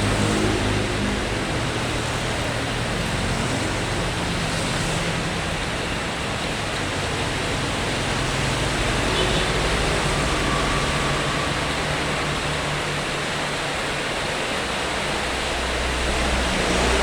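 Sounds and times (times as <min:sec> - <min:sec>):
vehicle on wet road: 0:00.0 - 0:17.0.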